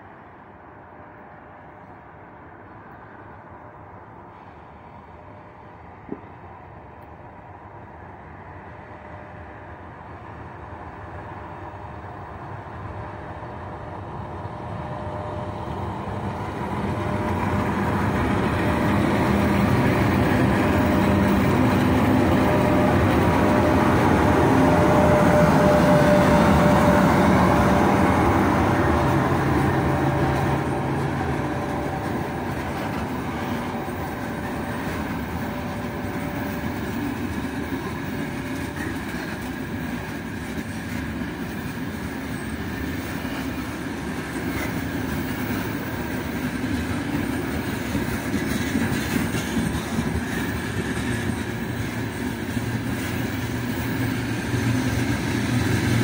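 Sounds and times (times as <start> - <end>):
electric locomotive whine: 0.0 - 56.0
train wheels rumbling: 2.8 - 56.0.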